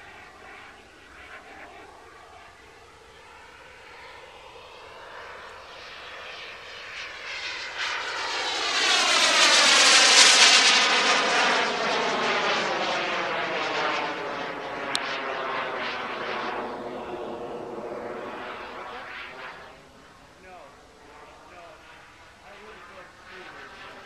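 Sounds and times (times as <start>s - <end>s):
model jet whooshing past: 0.0s - 24.0s.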